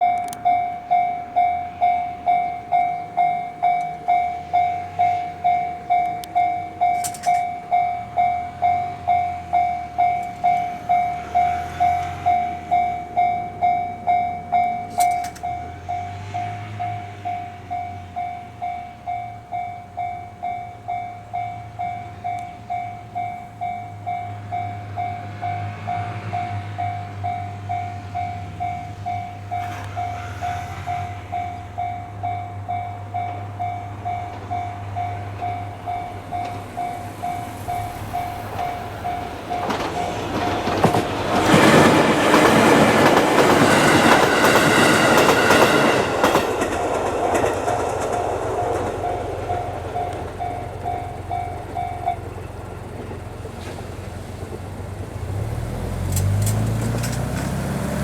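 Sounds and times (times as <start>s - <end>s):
level-crossing warning bell ringing: 0.0s - 58.0s
low rumble of approaching train: 0.0s - 58.0s.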